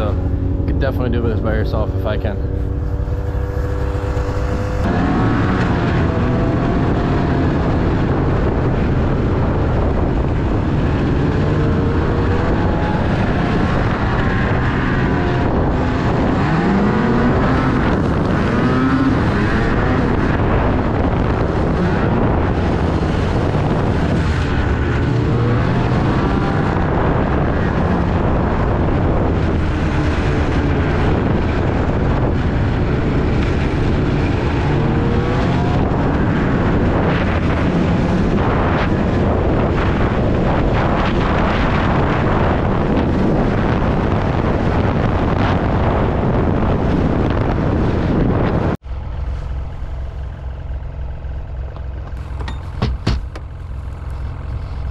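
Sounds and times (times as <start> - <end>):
snowmobile engine revving: 0.0 - 48.7
wind on microphone: 0.0 - 50.5, 51.7 - 54.9.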